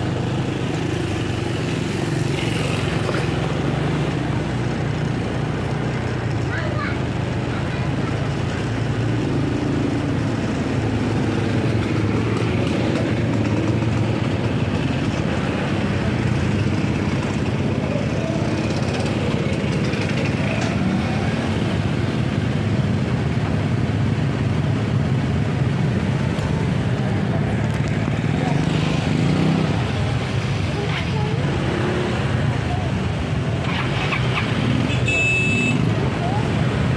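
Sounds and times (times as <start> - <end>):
other motorbike engines: 0.0 - 36.9.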